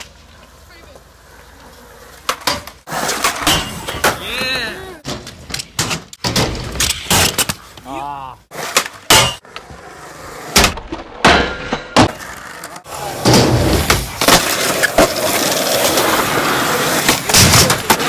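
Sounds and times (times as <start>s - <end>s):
skateboard wheels rolling on concrete: 0.0s - 6.2s, 8.5s - 11.2s, 11.9s - 18.0s.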